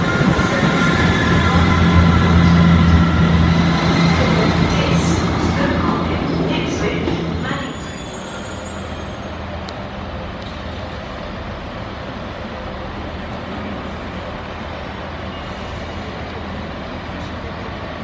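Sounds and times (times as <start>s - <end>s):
diesel train engine drone: 0.0s - 18.0s.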